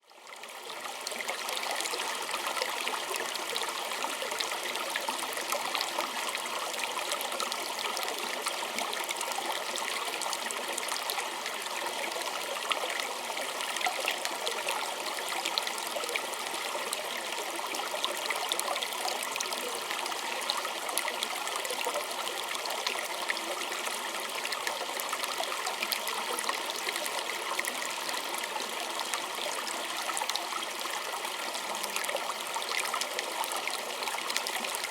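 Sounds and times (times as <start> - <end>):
creek water trickling over stones: 0.1 - 34.9.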